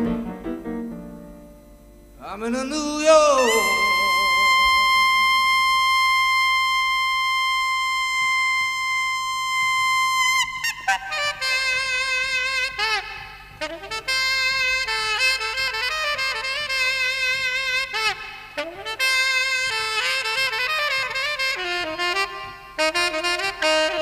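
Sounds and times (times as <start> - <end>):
saxophone solo: 2.3 - 24.0.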